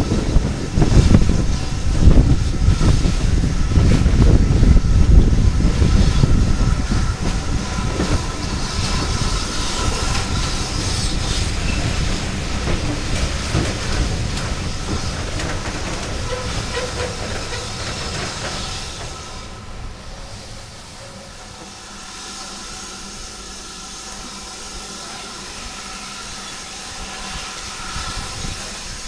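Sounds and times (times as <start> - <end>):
train wheels rumbling and clicking: 0.0 - 29.0.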